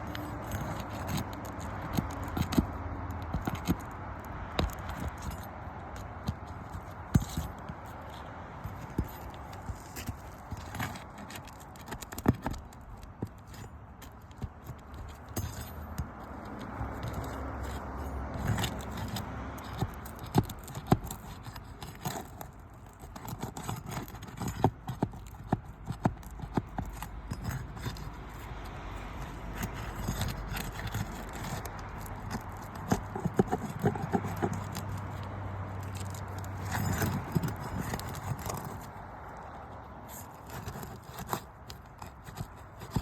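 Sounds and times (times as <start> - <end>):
metal tool scraping under shingles: 0.0 - 43.0.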